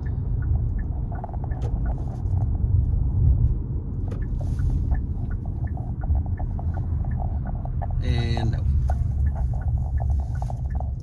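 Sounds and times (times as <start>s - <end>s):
low rumble of tyres and road: 0.0s - 11.0s.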